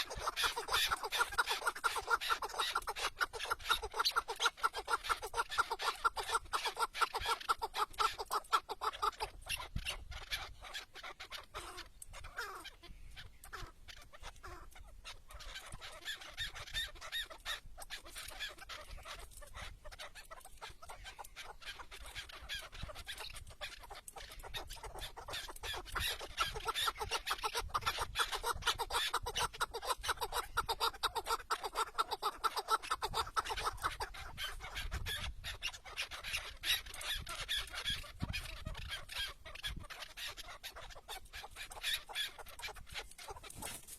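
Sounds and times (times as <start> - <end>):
partridges clucking calls: 0.0 - 43.9.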